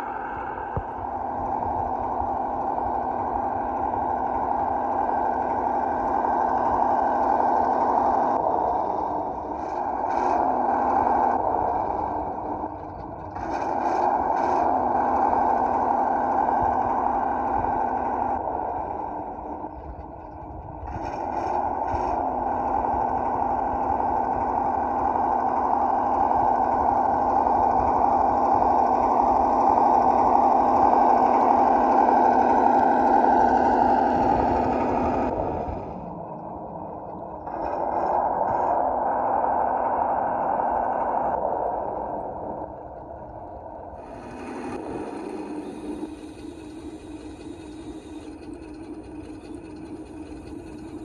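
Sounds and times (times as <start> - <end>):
simulated truck engine sound: 0.0 - 51.0.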